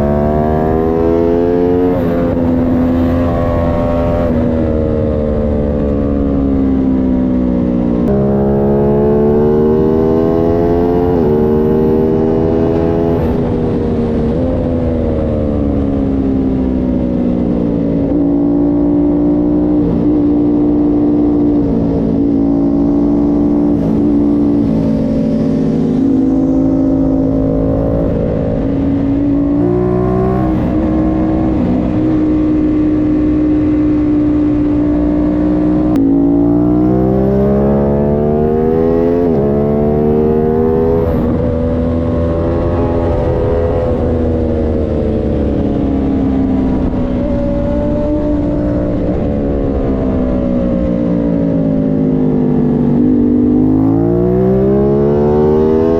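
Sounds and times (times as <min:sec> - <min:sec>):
motorcycle engine at high revs: 0:00.0 - 0:55.9.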